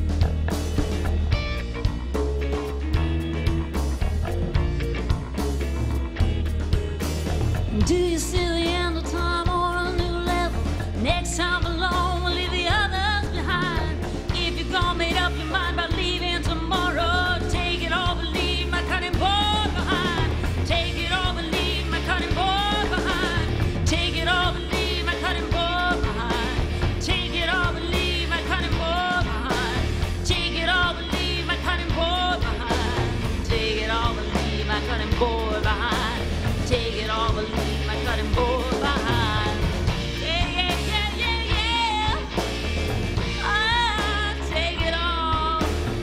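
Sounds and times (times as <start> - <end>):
live band playing: 0.0 - 46.0
woman singing: 7.7 - 42.5, 43.2 - 46.0.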